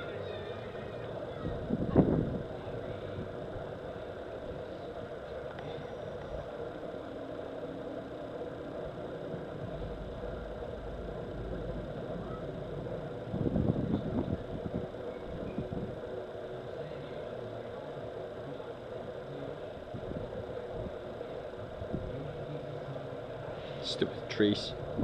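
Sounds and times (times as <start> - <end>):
engine-like hum: 0.0 - 25.0
low rumbling bursts: 0.0 - 25.0.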